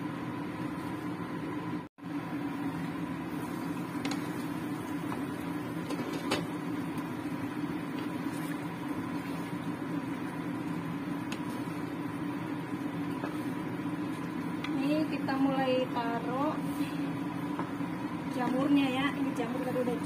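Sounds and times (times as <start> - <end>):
kitchen appliance humming: 0.0 - 20.0.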